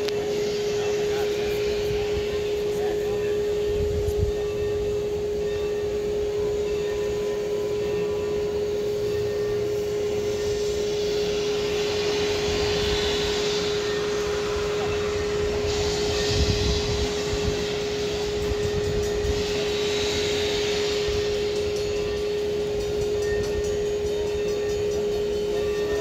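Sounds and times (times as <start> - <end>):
steady tone: 0.0 - 26.0
steam locomotive hissing: 0.0 - 26.0.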